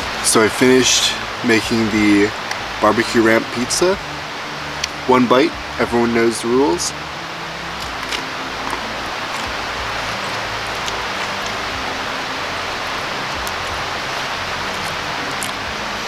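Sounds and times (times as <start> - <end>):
rushing hiss: 0.0 - 16.0.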